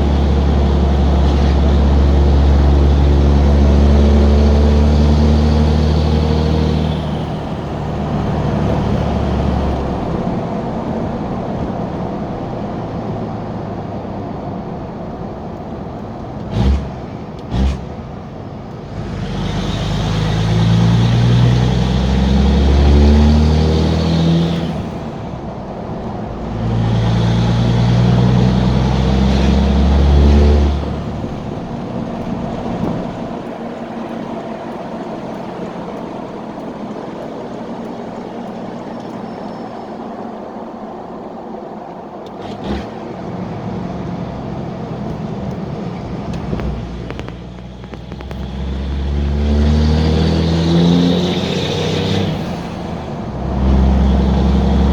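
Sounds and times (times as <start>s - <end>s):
diesel truck engine driving: 0.0s - 54.9s.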